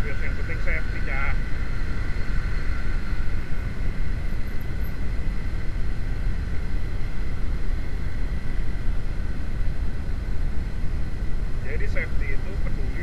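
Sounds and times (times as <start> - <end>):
motorcycle engine running: 0.0 - 11.7
wind rumble on microphone: 0.0 - 13.0.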